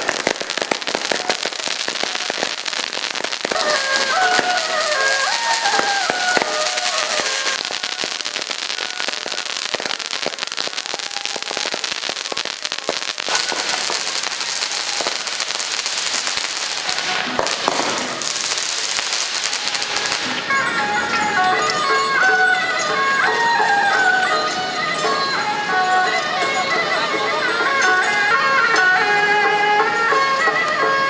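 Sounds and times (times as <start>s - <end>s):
firecrackers crackling: 0.0s - 31.0s.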